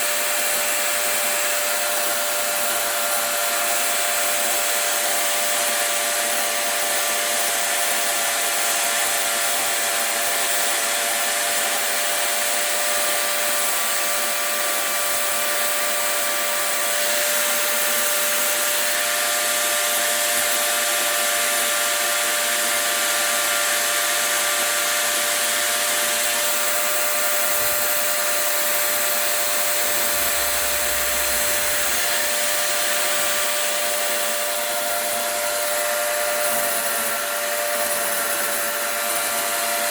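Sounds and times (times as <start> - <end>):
power tool whining on wood: 0.0 - 39.9.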